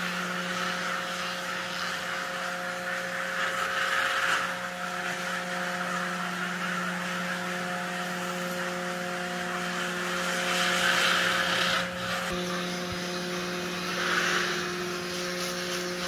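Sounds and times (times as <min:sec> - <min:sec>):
electric motors whirring: 0:00.0 - 0:16.0
steady electrical hum: 0:00.0 - 0:16.0.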